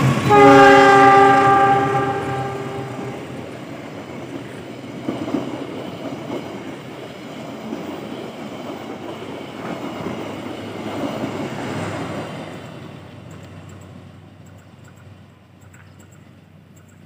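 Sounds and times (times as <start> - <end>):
train coaches passing: 0.0 - 17.0
steel wheels clattering on rails: 3.3 - 17.0.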